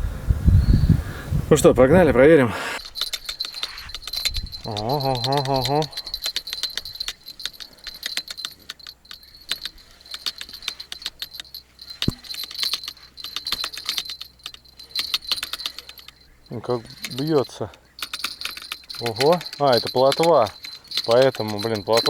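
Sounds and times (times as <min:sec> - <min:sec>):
fishing reel clicking: 0:02.8 - 0:22.0
high thin ringing: 0:02.8 - 0:22.0.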